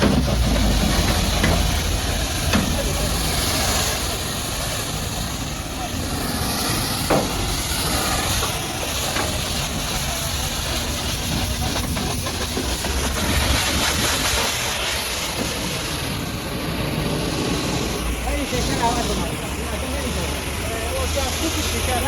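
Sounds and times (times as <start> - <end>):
low rumble: 0.0 - 20.6
pressure washer jet hissing: 0.0 - 22.0.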